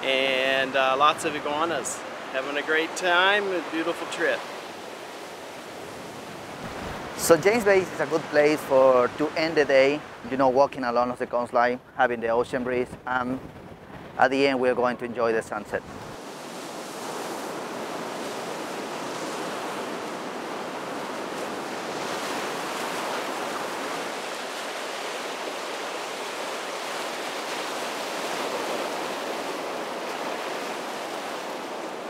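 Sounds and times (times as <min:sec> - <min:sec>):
ocean waves breaking: 0:00.0 - 0:32.0.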